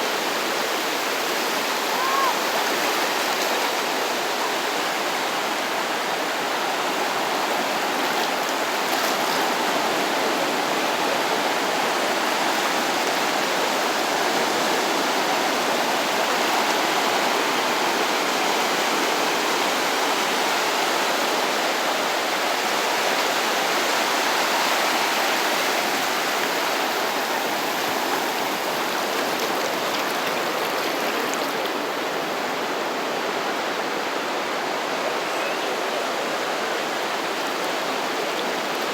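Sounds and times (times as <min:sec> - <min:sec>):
small waves washing ashore: 0:00.0 - 0:38.9.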